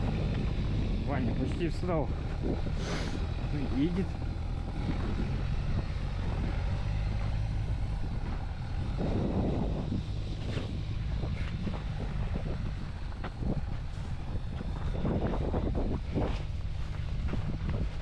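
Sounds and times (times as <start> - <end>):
vehicle driving through snow: 0.0 - 18.0
wind buffeting microphone: 0.0 - 18.0.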